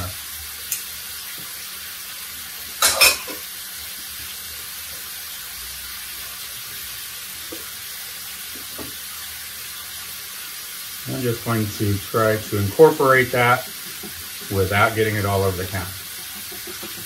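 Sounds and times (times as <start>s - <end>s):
mushrooms and beef sizzling in skillet: 0.0s - 17.0s.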